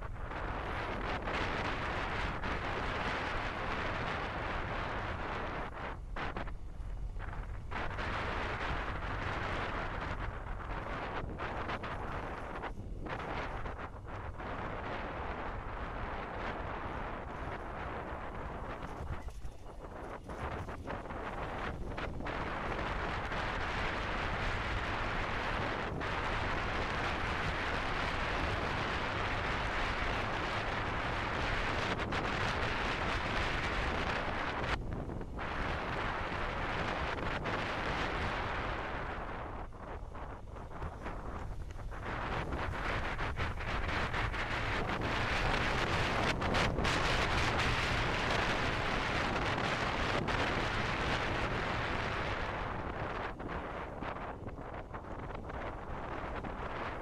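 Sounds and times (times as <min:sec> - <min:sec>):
motorcycle engine running: 0:00.0 - 0:53.3
wind buffeting microphone: 0:00.0 - 0:57.0.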